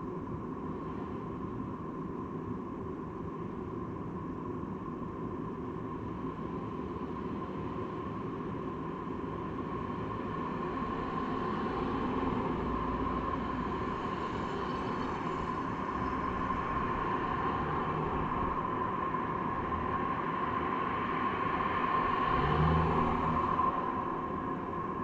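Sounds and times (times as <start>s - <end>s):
constant steady tone: 0.0s - 22.4s.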